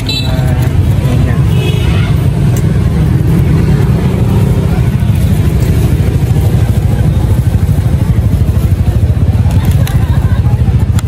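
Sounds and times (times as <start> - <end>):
motorbike traffic rumbling: 0.0 - 11.0.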